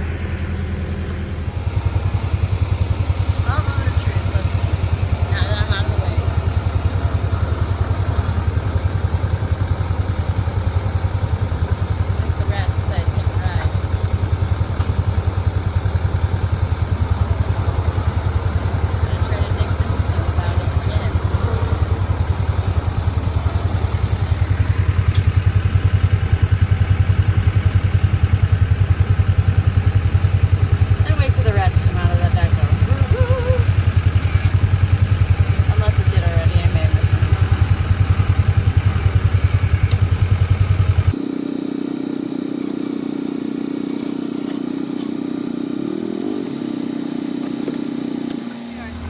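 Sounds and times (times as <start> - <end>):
backhoe engine throbbing: 0.0 - 49.0.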